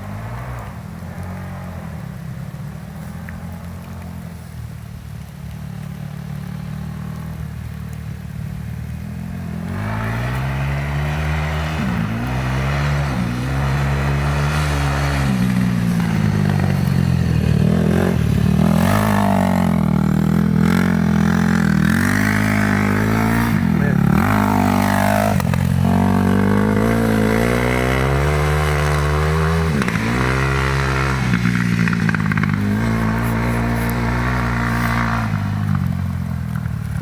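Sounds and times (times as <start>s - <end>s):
off-road motorcycle engine revving: 0.0s - 4.4s, 5.3s - 37.0s.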